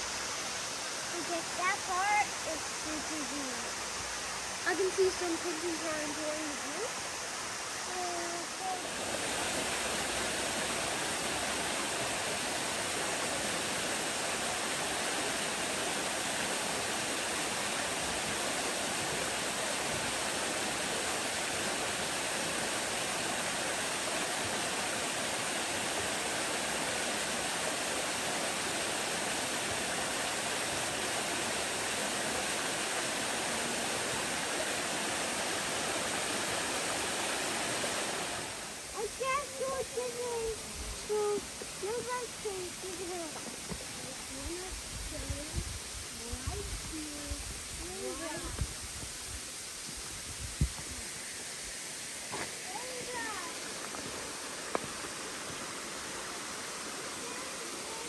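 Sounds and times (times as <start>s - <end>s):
waterfall splashing into pool: 0.0s - 58.0s.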